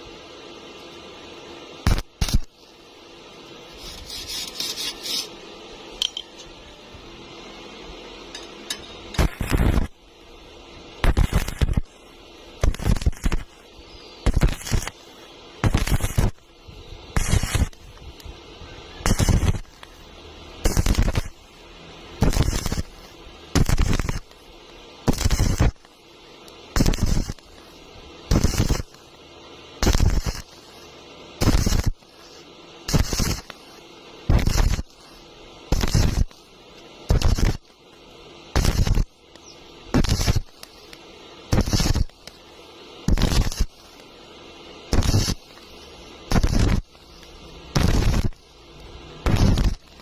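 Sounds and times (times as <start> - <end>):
low welder hum: 0.0 - 50.0
welding arc crackling: 0.0 - 50.0.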